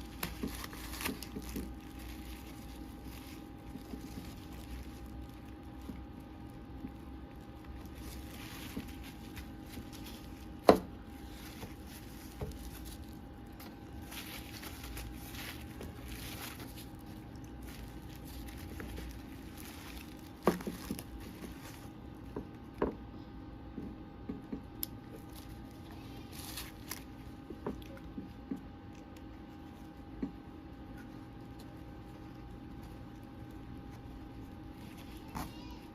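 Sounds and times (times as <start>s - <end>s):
plastic packaging crinkling: 0.0s - 22.4s, 24.8s - 28.2s, 30.7s - 35.9s
faint steady hum: 0.0s - 35.9s.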